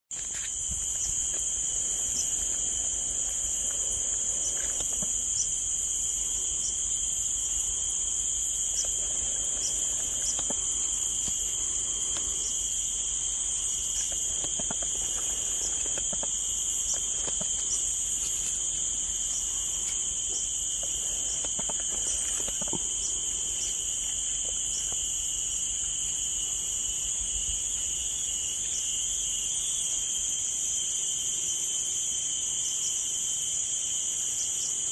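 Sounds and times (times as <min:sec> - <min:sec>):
insect chorus drone: 0:00.1 - 0:34.9.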